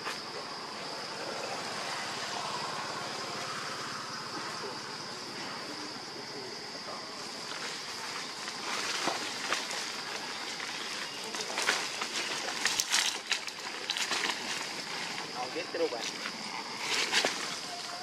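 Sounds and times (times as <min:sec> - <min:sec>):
high-pitched hiss: 0:00.0 - 0:18.0
leaves and branches rustling: 0:00.0 - 0:18.0.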